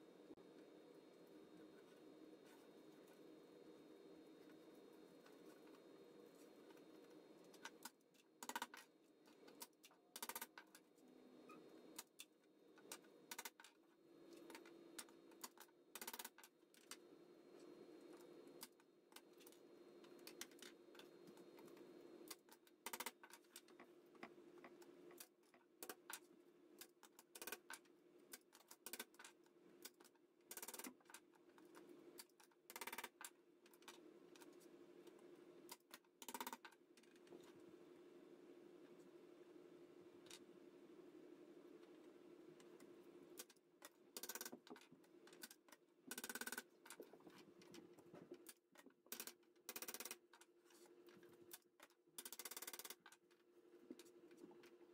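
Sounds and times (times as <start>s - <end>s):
faint steady hum: 0.0s - 48.6s.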